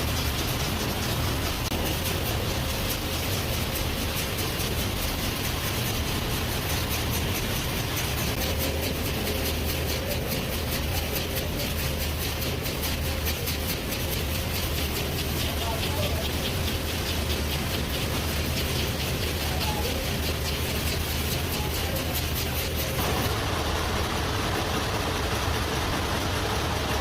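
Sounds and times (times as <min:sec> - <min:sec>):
factory machinery hum and clatter: 0:00.0 - 0:27.0.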